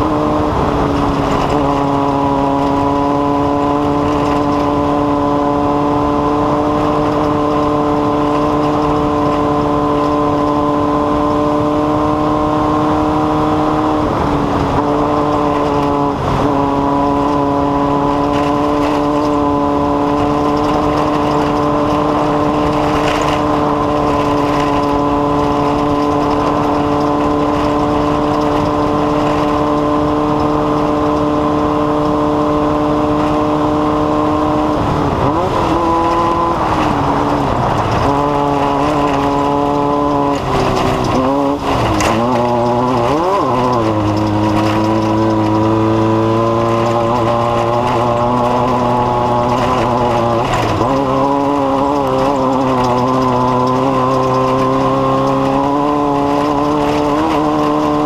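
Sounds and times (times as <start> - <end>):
engine running at high speed: 0.0 - 58.0.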